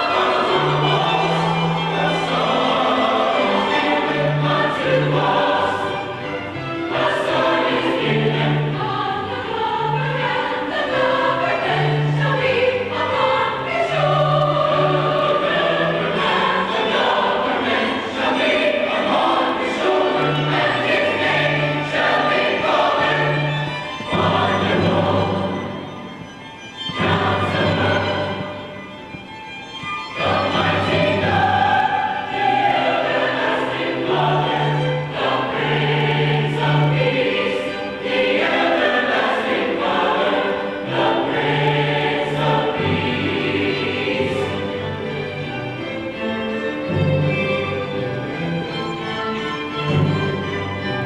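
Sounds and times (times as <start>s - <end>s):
choir singing: 0.0s - 26.2s, 26.8s - 29.0s, 30.1s - 51.0s
instrumental accompaniment: 0.0s - 51.0s.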